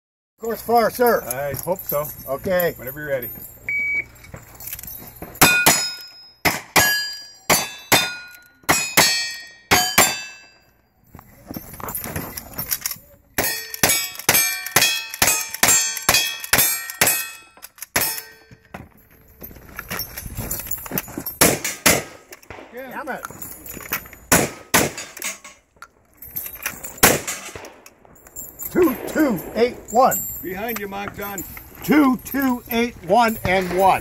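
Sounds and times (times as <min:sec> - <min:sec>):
steel targets clanging: 0:00.4 - 0:10.8, 0:11.9 - 0:18.7, 0:20.1 - 0:34.0.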